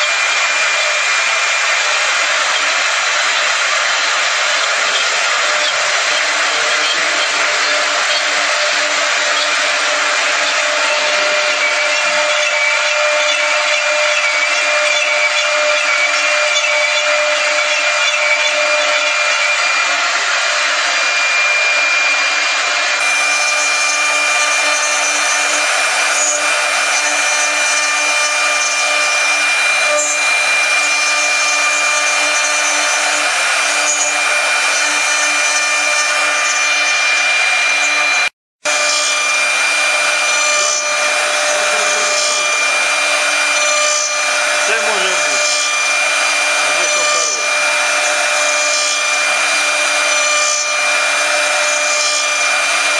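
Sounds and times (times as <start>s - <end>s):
bits cutting wood: 0.0s - 52.9s
cnc router spindle whine: 0.0s - 52.9s.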